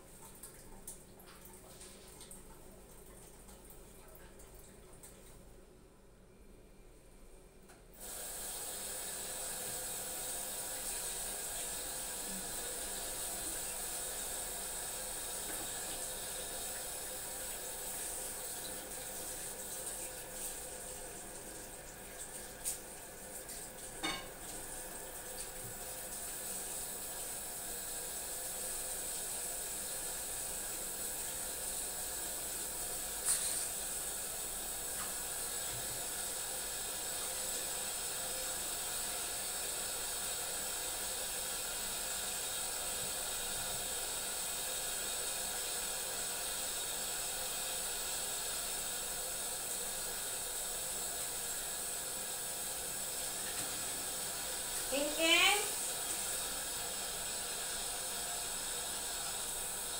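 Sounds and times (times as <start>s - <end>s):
tap water running into sink: 0.0s - 5.4s, 8.0s - 59.9s.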